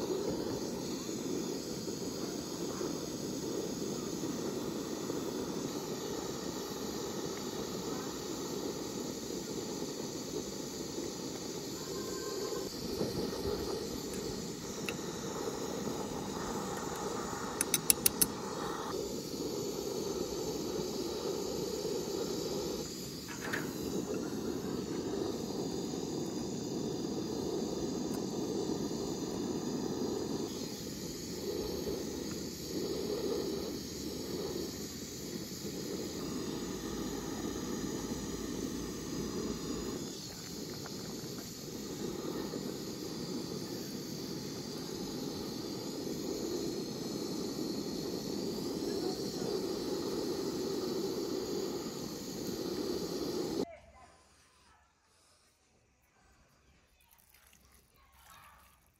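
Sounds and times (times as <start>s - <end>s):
camping stove burner hissing: 0.0s - 53.8s.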